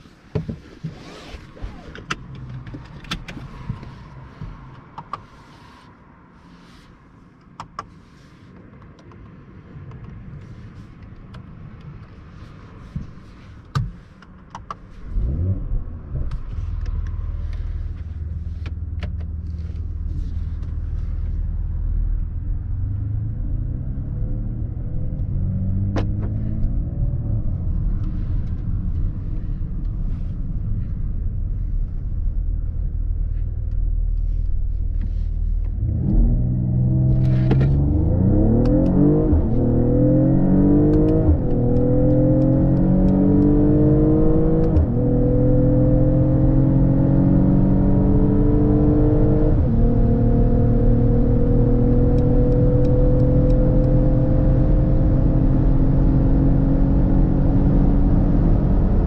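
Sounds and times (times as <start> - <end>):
car engine starting and running: 0.0 - 59.0.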